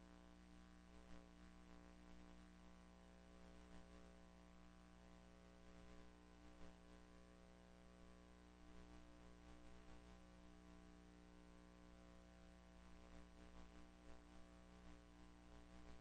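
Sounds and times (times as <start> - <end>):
faint electrical mains hum: 0.0 - 16.0.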